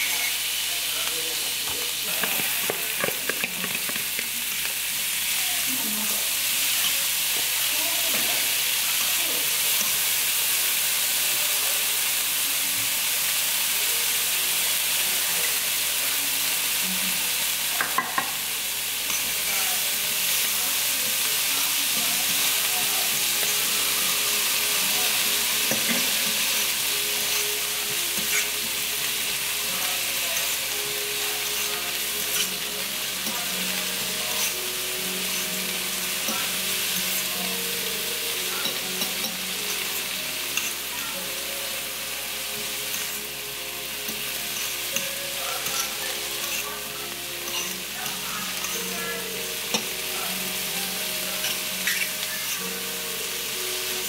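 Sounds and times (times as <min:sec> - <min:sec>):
peppers sizzling in a frying pan: 0:00.0 - 0:54.0
spatula stirring in a pan: 0:01.4 - 0:11.2, 0:16.6 - 0:54.0.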